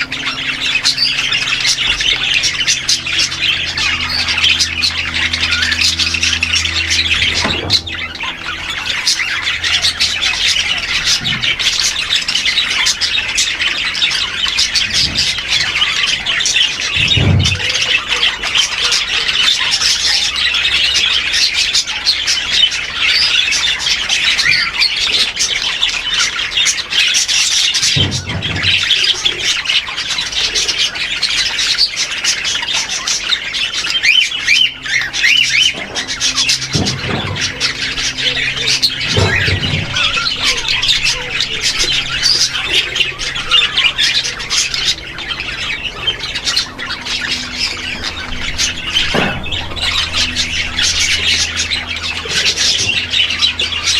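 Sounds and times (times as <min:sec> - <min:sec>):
birds chattering and squawking: 0:00.0 - 0:53.9
louder lower bird calls: 0:00.0 - 0:53.9.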